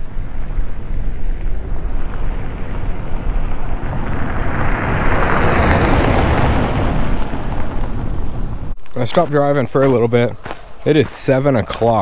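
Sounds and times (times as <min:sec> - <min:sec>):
car passing on gravel: 0:00.0 - 0:12.0.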